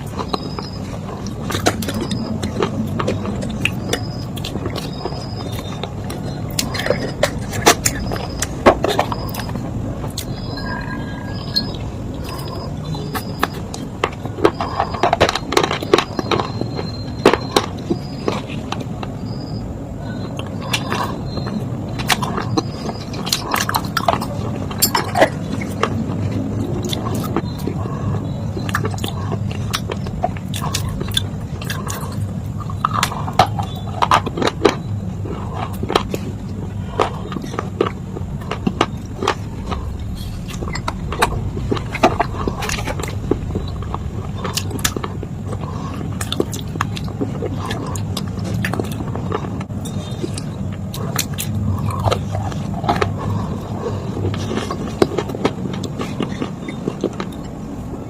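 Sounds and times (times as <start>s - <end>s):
chewing and crunching: 0.0s - 58.0s
low background hum: 0.0s - 58.0s.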